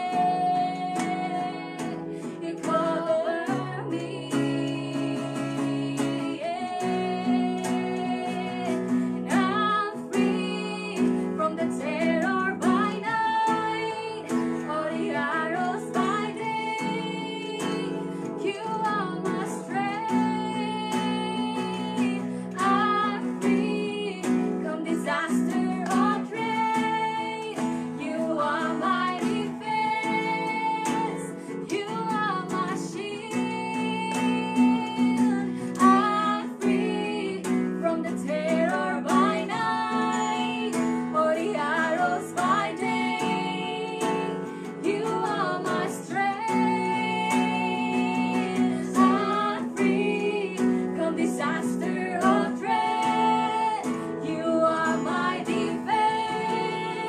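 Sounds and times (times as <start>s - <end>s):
strummed acoustic guitar: 0.0s - 57.0s
women singing worship song: 0.0s - 57.0s.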